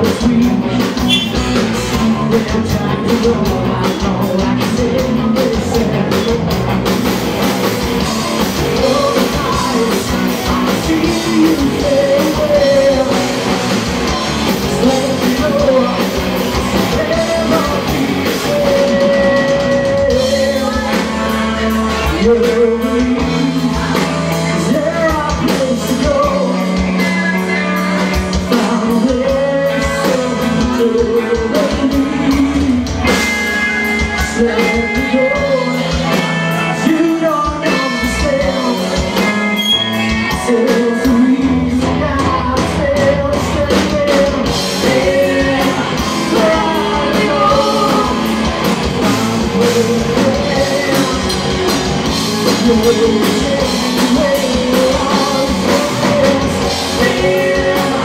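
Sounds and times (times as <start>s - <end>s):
person singing: 0.0s - 6.9s, 7.9s - 58.0s
bass guitar: 0.0s - 58.0s
drums: 0.0s - 58.0s
electric guitars: 0.0s - 58.0s.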